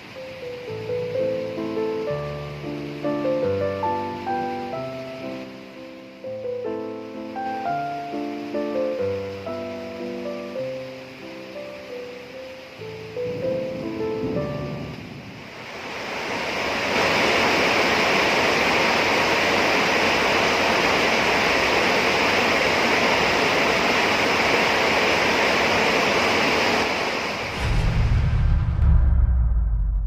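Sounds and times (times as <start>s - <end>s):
heavy rain pouring: 0.0s - 29.4s.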